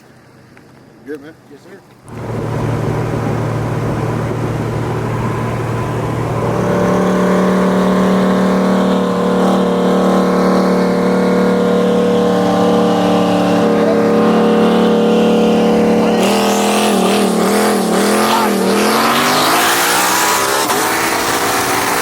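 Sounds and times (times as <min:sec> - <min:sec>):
car engine running: 0:02.0 - 0:22.0.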